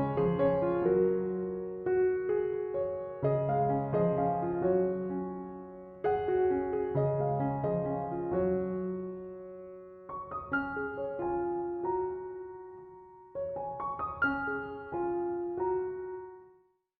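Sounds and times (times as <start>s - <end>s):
gentle piano music: 0.0s - 16.8s.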